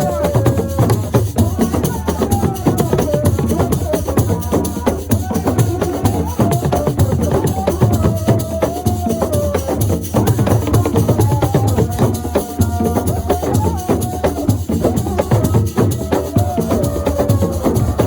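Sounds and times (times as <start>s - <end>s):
driving hand percussion: 0.0s - 18.0s.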